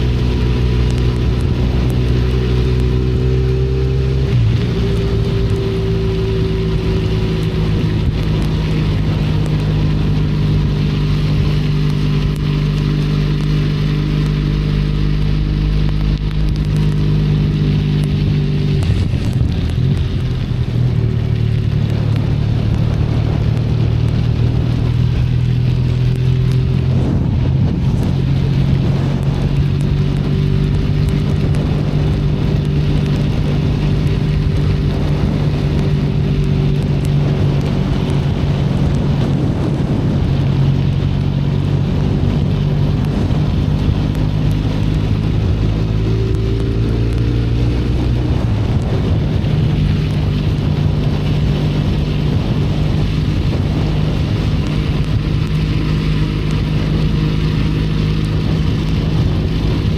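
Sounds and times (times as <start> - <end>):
motorcycle engine running: 0.0 - 59.9
rain hiss: 0.0 - 59.9.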